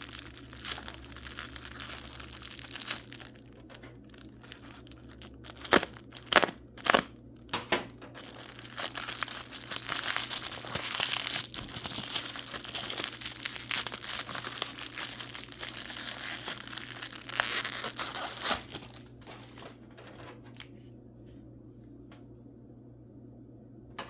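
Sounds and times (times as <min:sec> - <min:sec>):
packing wrap crinkling and tearing: 0:00.0 - 0:20.7.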